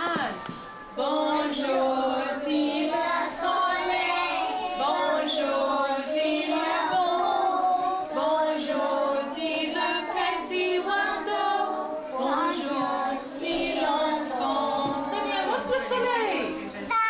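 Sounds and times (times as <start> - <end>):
children singing in chorus: 0.4 - 15.8.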